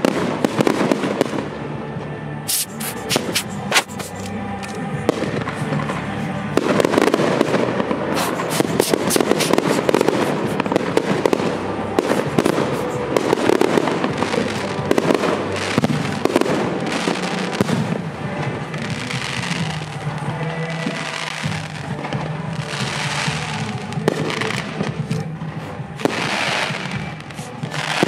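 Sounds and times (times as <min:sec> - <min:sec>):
fireworks bursting and crackling: 0:00.0 - 0:01.8, 0:02.5 - 0:28.0
music: 0:00.0 - 0:28.0.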